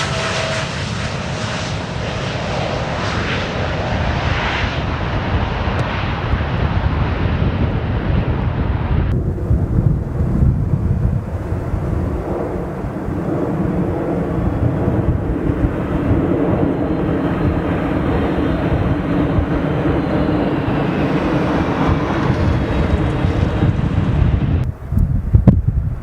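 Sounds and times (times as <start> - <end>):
jet engine whine: 0.0 - 26.0
jet engines rumbling: 0.0 - 26.0.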